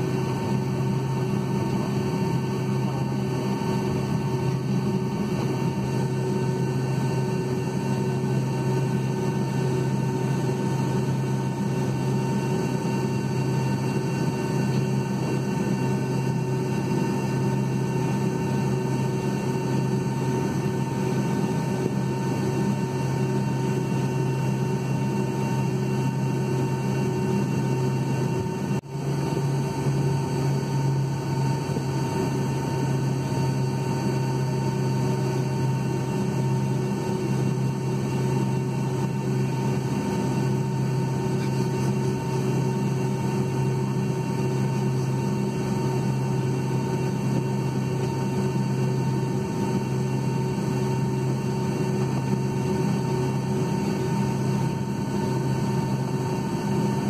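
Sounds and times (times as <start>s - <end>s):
faint steady whine: 0.0s - 57.0s
jet engine low drone: 0.0s - 57.0s.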